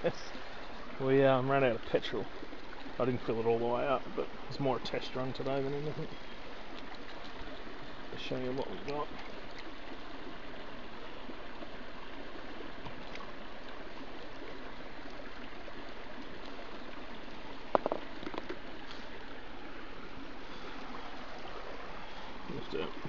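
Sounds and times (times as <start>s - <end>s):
river running: 0.0s - 23.0s.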